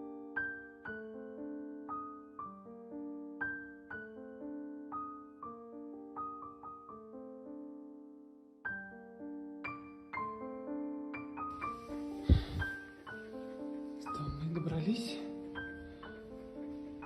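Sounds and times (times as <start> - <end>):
gentle piano notes: 0.0 - 17.0.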